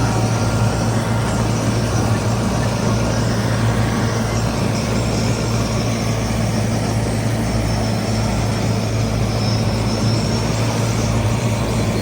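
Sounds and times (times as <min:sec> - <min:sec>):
machinery engine humming: 0:00.0 - 0:12.0.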